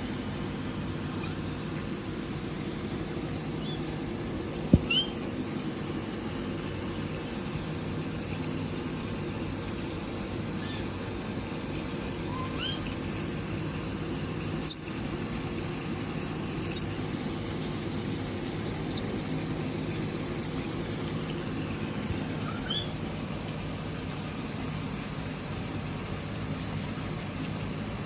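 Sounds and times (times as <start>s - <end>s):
steady low hum: 0.0s - 28.0s
nestlings peeping: 0.1s - 23.5s.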